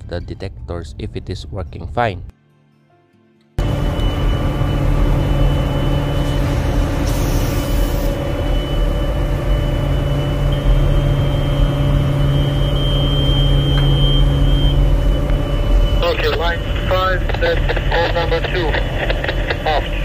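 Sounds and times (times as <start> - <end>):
ship machinery hum: 3.6 - 20.0
thin high whine: 3.6 - 20.0.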